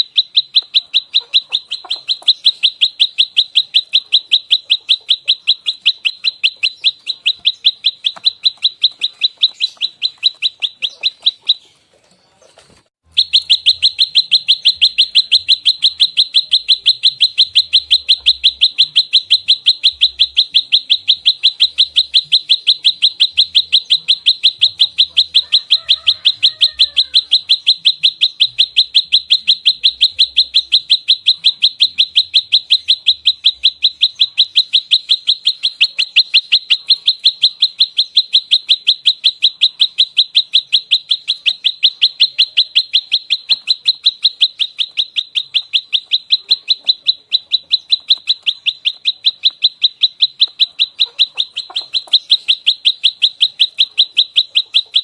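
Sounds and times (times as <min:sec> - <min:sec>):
bird sharp high chirps: 0:00.0 - 0:55.0.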